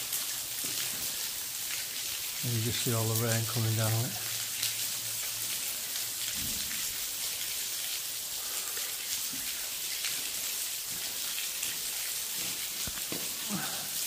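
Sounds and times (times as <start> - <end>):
water splashing in a tunnel shaft: 0.0 - 14.0.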